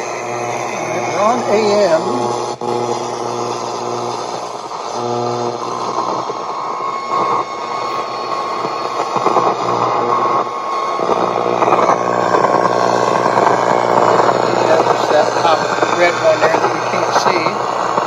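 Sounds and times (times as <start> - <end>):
radio static and buzz: 0.0 - 18.0
steady radio whistle: 0.0 - 18.0.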